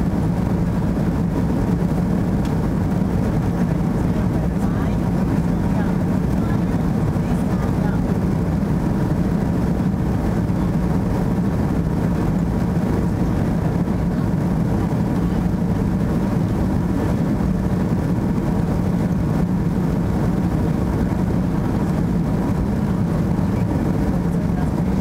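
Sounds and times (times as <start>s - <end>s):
jet cabin engine noise: 0.0s - 25.0s.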